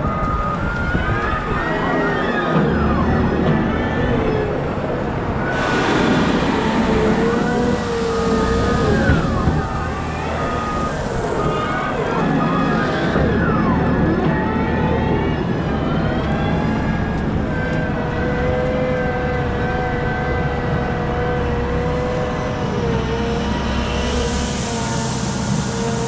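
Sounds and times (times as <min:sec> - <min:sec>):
wheel loader engine whining: 0:00.0 - 0:26.0.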